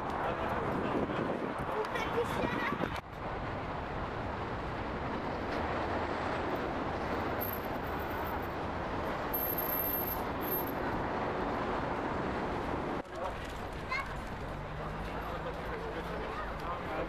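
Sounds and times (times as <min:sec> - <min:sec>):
city traffic: 0:00.0 - 0:17.0.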